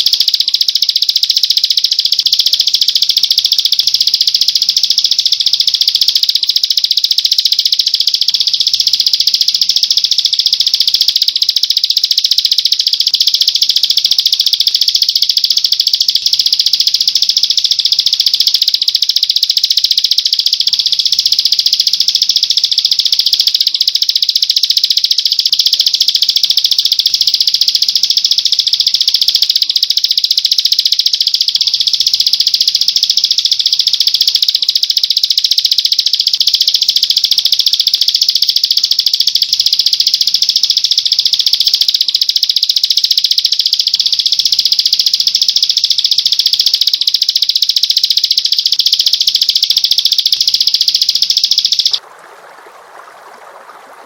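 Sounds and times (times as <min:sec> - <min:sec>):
songbird rapid trill: 0:00.0 - 0:52.0.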